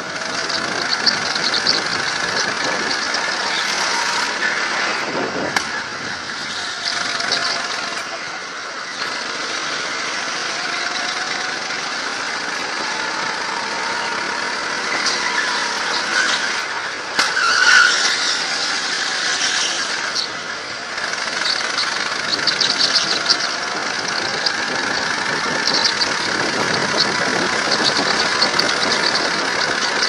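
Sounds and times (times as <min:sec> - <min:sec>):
go-kart engine running: 0:00.0 - 0:30.0
tyre squeal: 0:00.0 - 0:30.0.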